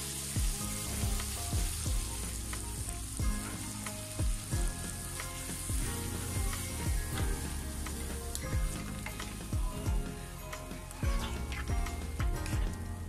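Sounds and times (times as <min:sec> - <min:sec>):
background music: 0:00.0 - 0:13.0
masala sizzling in a wok: 0:00.0 - 0:13.0.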